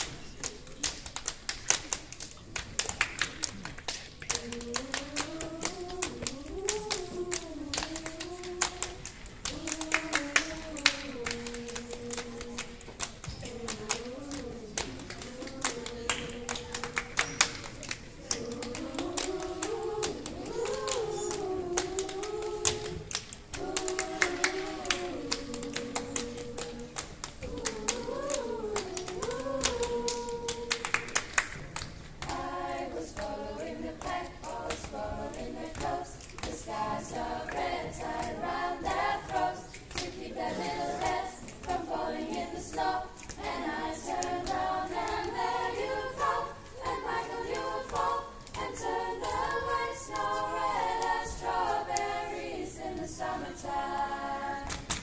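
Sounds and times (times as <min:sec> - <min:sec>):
body percussion clapping and slapping: 0:00.0 - 0:52.2, 0:54.6 - 0:55.0
girls' choir singing a cappella: 0:00.0 - 0:55.0.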